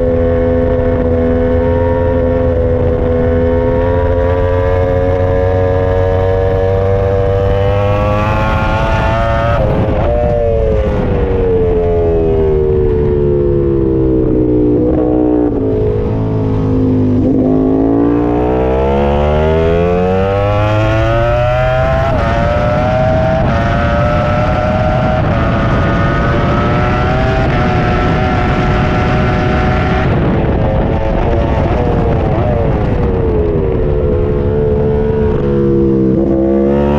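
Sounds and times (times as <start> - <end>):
superbike engine revving: 0.0 - 36.9.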